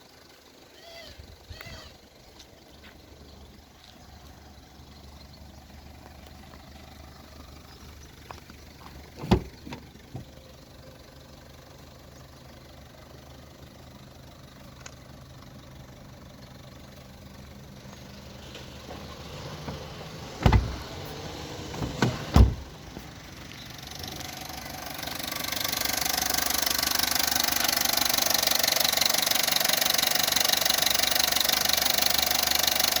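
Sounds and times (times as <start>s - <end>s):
car engine idling: 0.0s - 33.0s
engine rattling: 0.0s - 33.0s.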